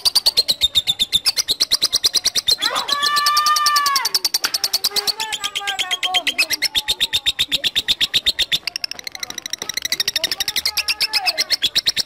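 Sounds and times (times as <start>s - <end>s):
lovebird shrill chatter: 0.0s - 12.0s.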